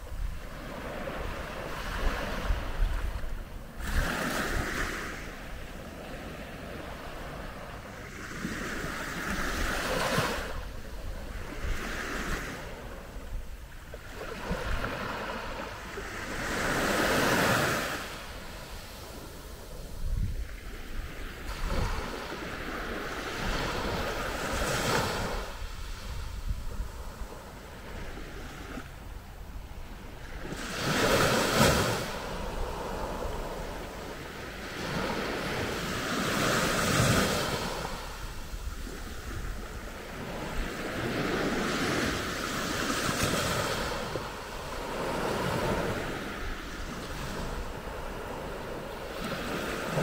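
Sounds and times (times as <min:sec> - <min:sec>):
sea waves washing onto beach: 0:00.0 - 0:50.0
wind rumble on microphone: 0:00.0 - 0:50.0.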